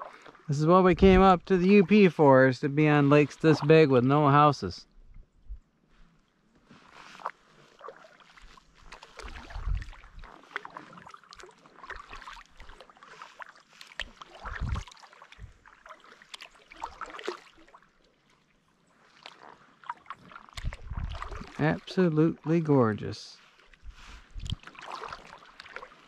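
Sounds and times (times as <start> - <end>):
paddle water splashing: 0.0 - 4.7, 6.0 - 26.0.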